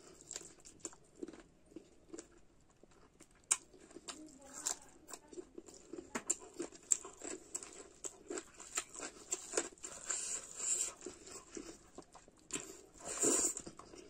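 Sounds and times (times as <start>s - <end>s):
chewing and mouth smacks: 0.0s - 14.0s.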